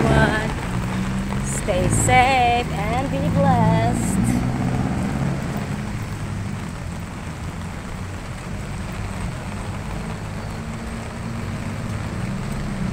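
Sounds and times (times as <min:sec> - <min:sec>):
low traffic rumble: 0:00.0 - 0:12.9
rain on a wet road: 0:00.0 - 0:12.9.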